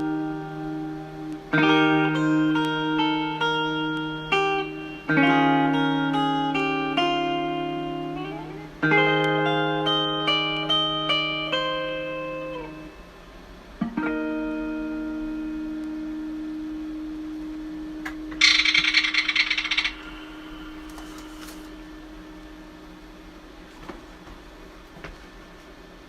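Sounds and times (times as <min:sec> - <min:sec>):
guitar notes and chord ringing: 0:00.0 - 0:24.2.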